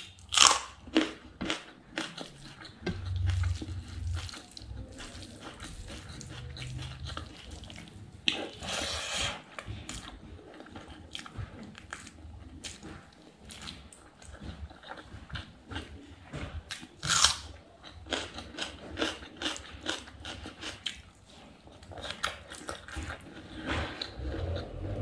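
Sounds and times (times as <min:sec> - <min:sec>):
person chewing with wet smacks: 0:00.0 - 0:24.6.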